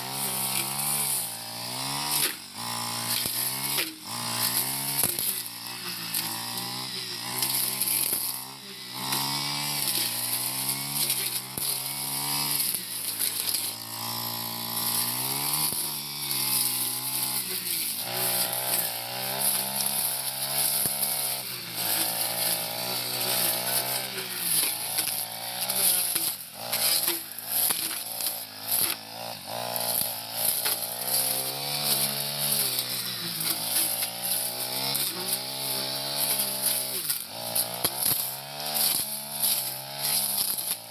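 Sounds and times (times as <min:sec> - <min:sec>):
brush cutter engine revving: 0:00.0 - 0:40.9.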